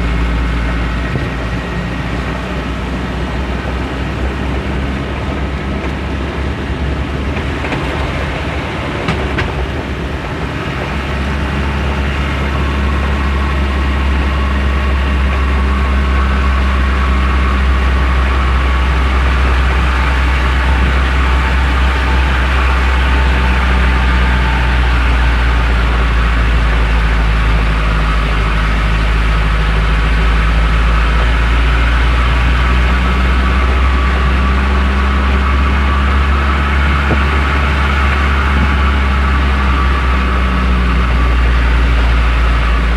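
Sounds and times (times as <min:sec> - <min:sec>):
truck engine droning: 0:00.0 - 0:42.9.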